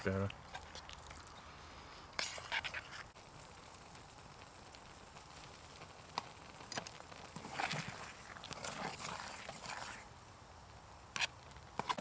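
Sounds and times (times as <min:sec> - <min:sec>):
food sizzling in a pot: 0:00.5 - 0:12.0.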